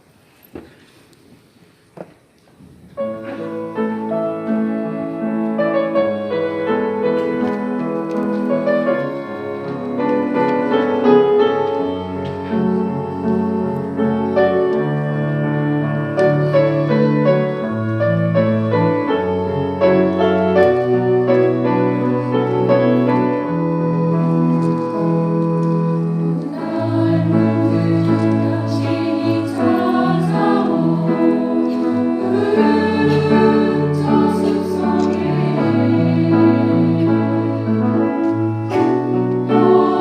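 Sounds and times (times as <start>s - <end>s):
piano playing held chords: 3.0s - 40.0s.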